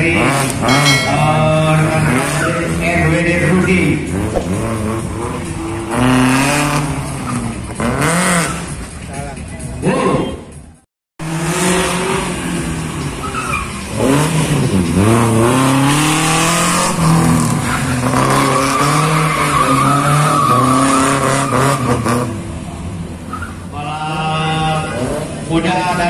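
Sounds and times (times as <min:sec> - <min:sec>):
car engine revving: 0:00.0 - 0:09.8, 0:11.2 - 0:26.0.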